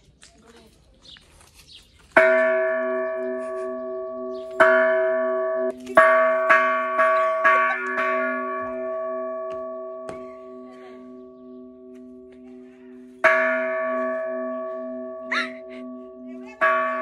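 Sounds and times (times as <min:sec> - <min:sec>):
metal bell ringing deeply: 0:02.2 - 0:17.0.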